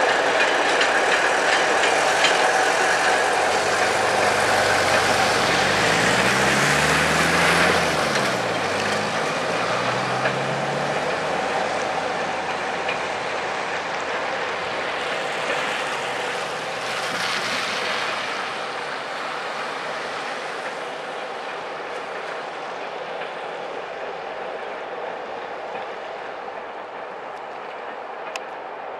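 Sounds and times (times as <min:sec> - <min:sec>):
train wheels rolling on rails: 0:00.0 - 0:28.9.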